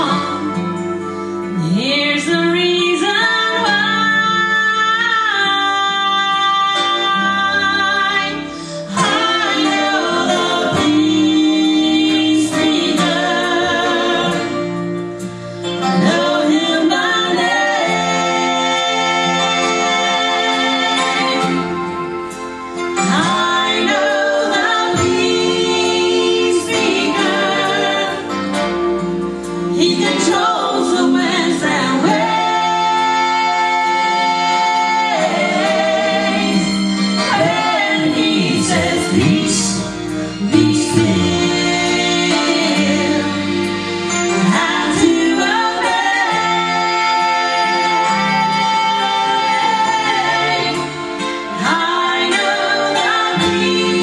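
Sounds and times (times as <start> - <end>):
accompaniment music: 0.0 - 54.0
gospel group singing: 0.0 - 54.0.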